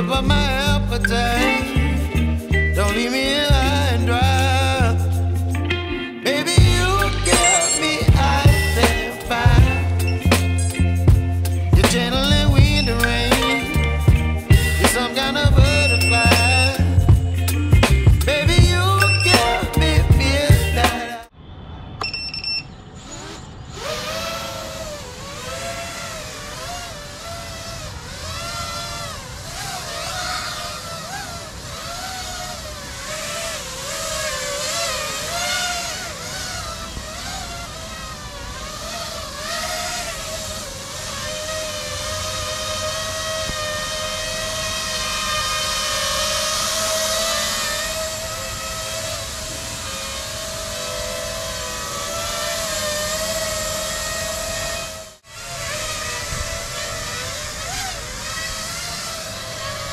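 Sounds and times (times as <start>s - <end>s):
quadcopter motors whining: 0.0s - 21.3s, 22.1s - 59.9s.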